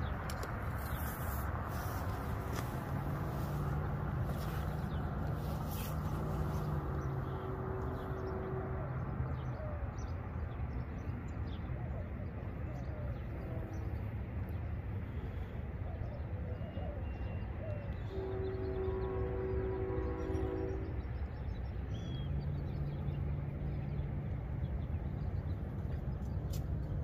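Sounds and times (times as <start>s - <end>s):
distant traffic rumble: 0.0s - 27.0s.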